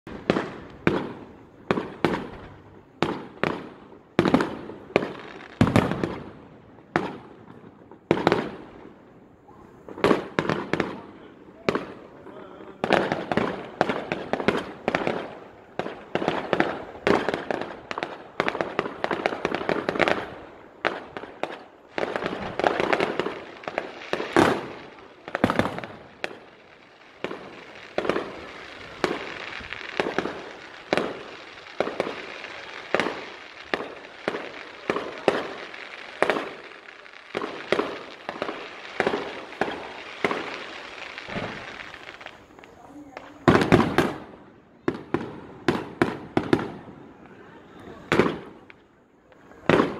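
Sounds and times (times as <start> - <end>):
fireworks bangs and crackle: 0.0 - 49.9.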